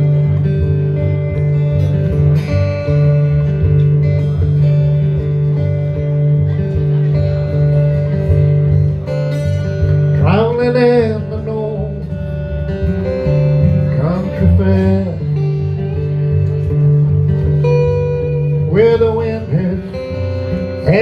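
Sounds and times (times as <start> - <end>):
acoustic lap slide guitar: 0.0 - 21.0.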